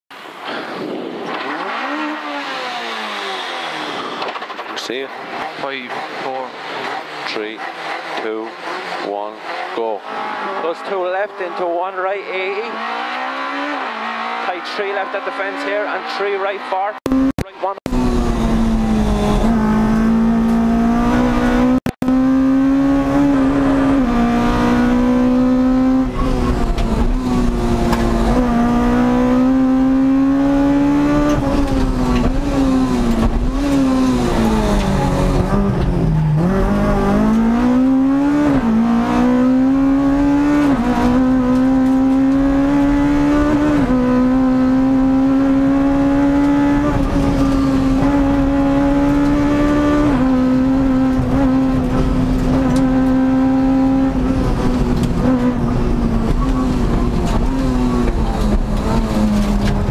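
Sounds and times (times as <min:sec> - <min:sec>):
rally car engine at high revs: 0:00.4 - 0:59.9.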